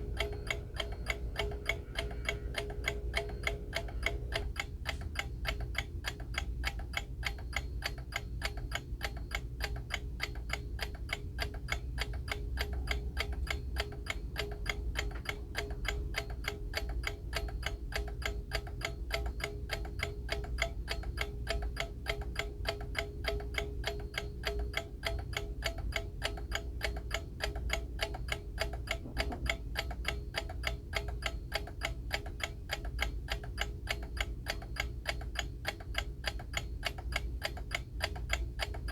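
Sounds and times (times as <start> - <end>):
alarm clock ticking: 0.0 - 38.9.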